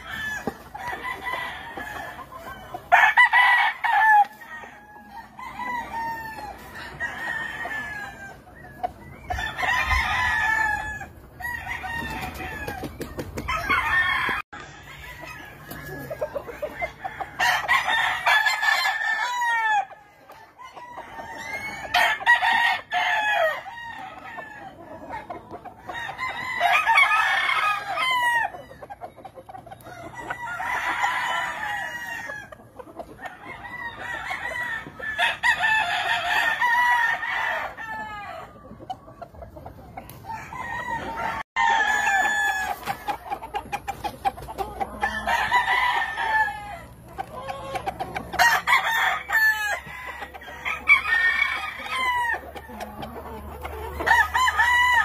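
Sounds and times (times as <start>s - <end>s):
roosters crowing: 0.0s - 38.9s, 40.0s - 55.0s.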